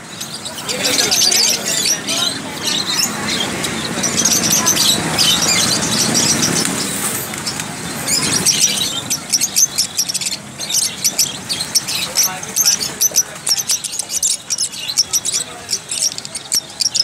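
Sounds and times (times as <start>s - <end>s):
birds chirping and squeaking: 0.0s - 17.0s
low street rumble: 0.0s - 17.0s.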